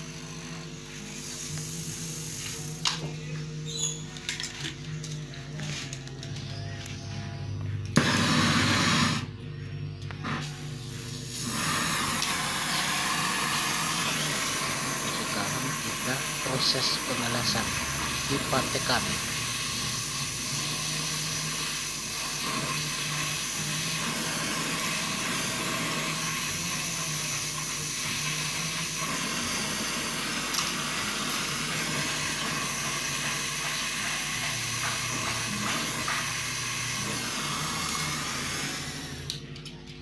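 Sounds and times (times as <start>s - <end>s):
torch flame hissing: 0.0s - 3.0s, 8.0s - 9.3s, 10.2s - 39.3s.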